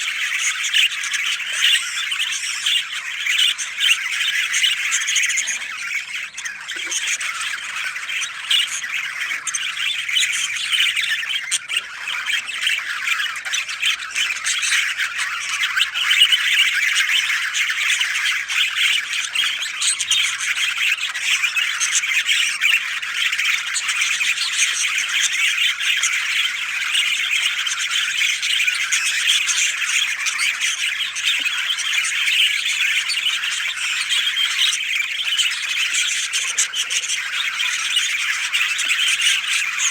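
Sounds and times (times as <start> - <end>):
chorus of birds chattering: 0.0 - 39.9.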